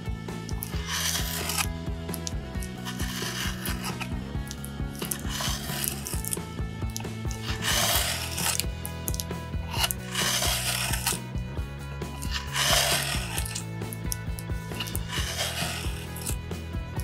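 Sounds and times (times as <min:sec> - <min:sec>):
background music: 0:00.0 - 0:17.0
gouge scraping wood: 0:00.5 - 0:11.3, 0:12.1 - 0:16.4.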